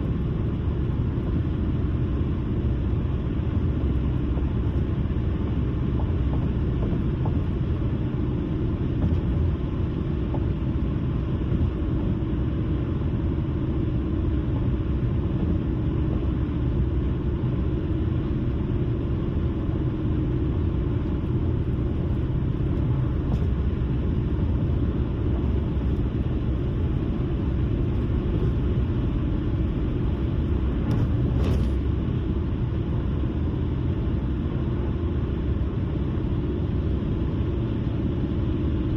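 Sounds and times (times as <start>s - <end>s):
car tyre and engine rumble: 0.0s - 38.9s.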